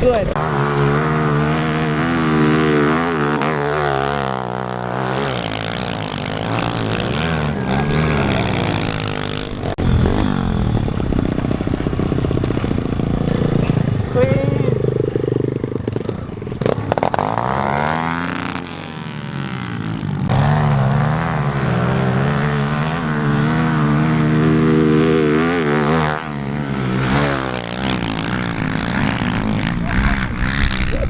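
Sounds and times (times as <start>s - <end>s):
small motorbike engine revving hard: 0.4s - 31.0s.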